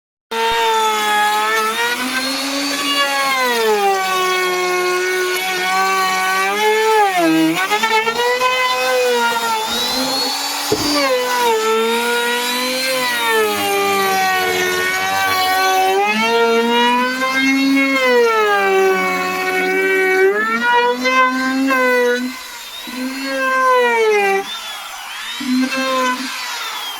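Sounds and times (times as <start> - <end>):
wood router cutting: 0.3 - 26.9.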